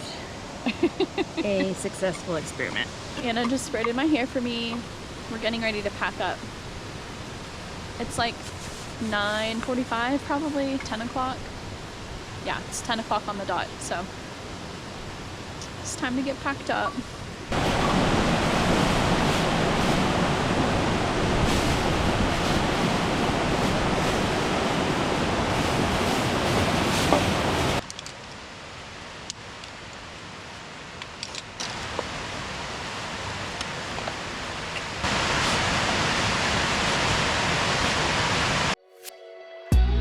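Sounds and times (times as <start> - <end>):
flowing water rushing: 0.0 - 38.8.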